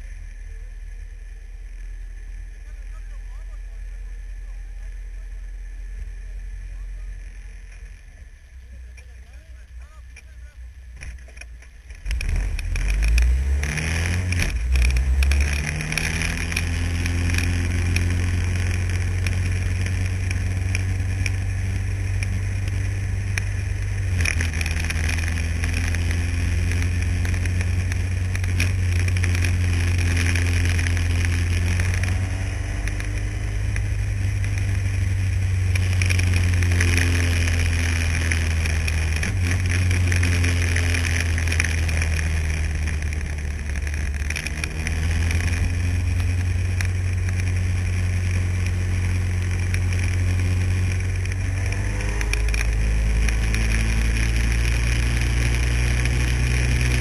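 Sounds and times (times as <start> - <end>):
race car engine revving: 10.9 - 57.0.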